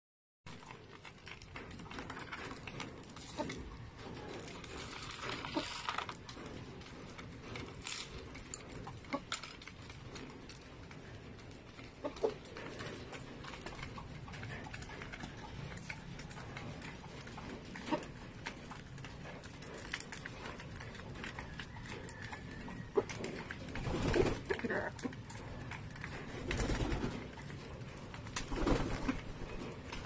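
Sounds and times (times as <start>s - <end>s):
pigeons pecking seed: 0.5s - 30.0s.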